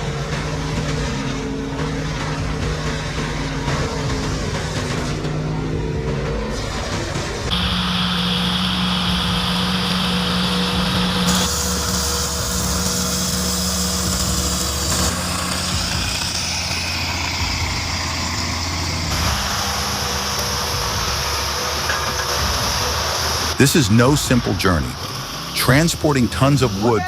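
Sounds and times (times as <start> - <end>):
heavy machinery engines running: 0.0 - 27.0.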